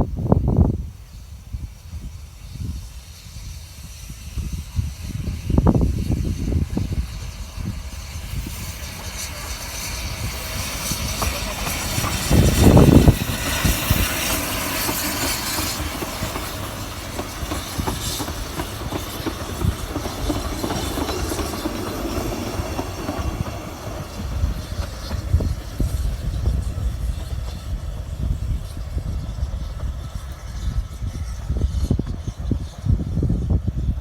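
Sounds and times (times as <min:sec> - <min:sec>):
hiss: 0:00.0 - 0:34.0
steady rushing noise: 0:00.0 - 0:34.0
train wheels clattering on rails: 0:04.2 - 0:34.0.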